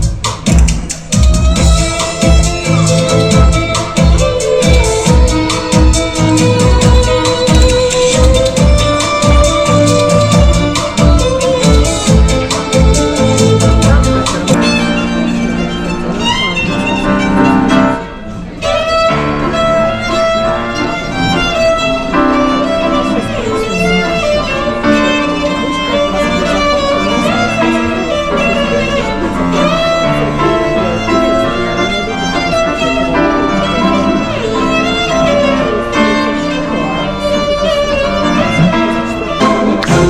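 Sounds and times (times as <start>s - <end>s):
instrumental accompaniment: 0.0s - 40.0s
violin melody: 0.8s - 40.0s.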